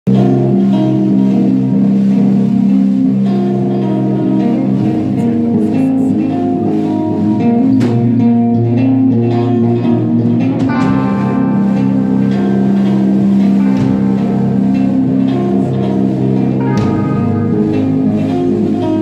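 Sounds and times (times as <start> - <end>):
live metal band with guitar: 0.1 - 19.0.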